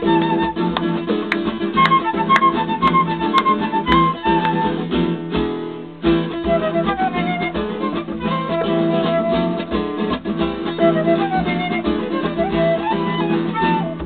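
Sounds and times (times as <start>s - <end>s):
flute melody: 0.0s - 5.3s, 6.3s - 14.0s
guitar strumming: 0.0s - 14.0s.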